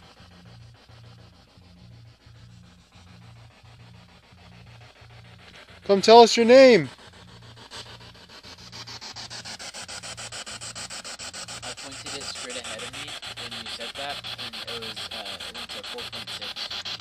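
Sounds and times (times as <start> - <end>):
pulsing radio static: 0.0 - 17.0.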